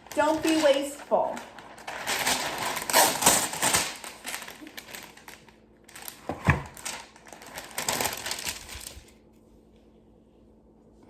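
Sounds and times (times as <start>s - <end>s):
paper rustling and crinkling: 0.0s - 9.4s.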